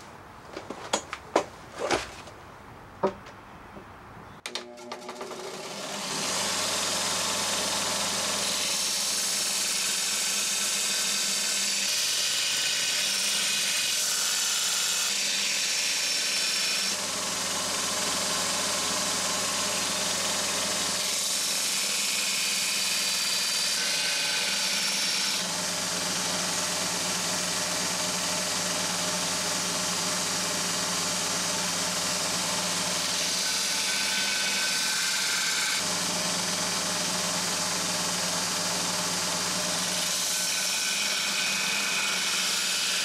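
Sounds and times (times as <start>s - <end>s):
belt grinder grinding steel: 4.8s - 27.3s, 30.6s - 43.0s.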